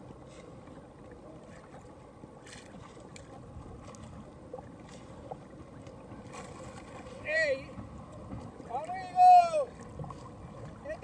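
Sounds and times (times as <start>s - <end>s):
waves lapping against kayak hull: 0.0s - 11.0s.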